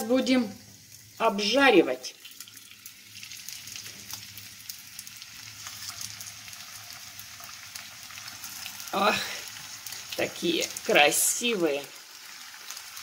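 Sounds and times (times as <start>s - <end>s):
crepes sizzling in a pan: 0.0s - 13.0s
oil crackling and popping: 0.6s - 13.0s.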